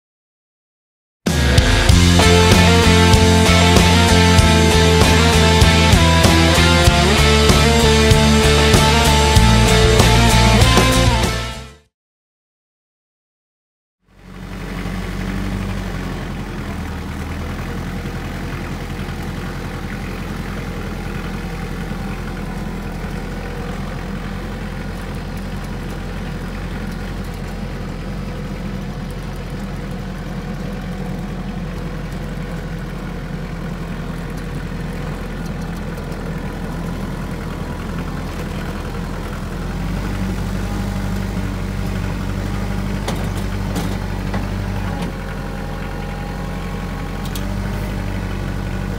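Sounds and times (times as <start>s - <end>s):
tractor diesel engine running: 1.3s - 11.7s, 14.1s - 48.9s.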